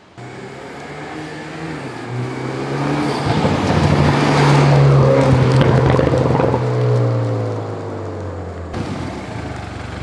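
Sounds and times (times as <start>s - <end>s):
car engine passing by: 0.2s - 10.0s.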